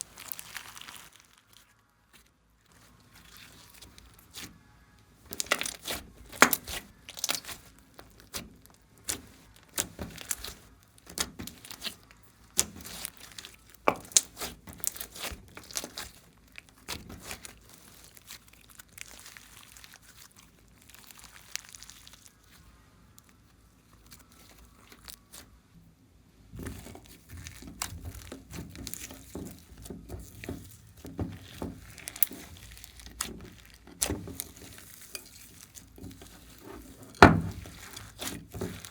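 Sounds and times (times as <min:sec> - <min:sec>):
slime squishing: 0:00.0 - 0:25.7, 0:26.4 - 0:38.9.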